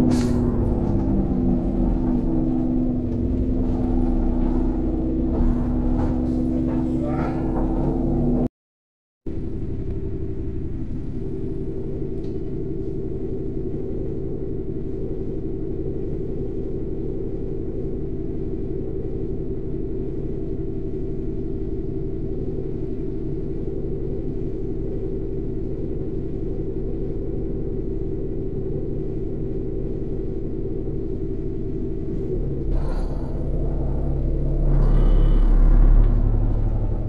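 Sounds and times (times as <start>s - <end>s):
bus engine droning: 0.0s - 8.5s, 9.3s - 37.0s.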